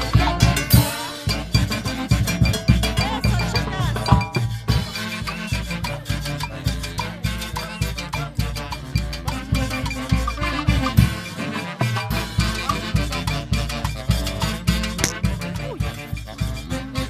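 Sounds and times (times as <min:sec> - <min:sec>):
live salsa band playing: 0:00.0 - 0:17.0.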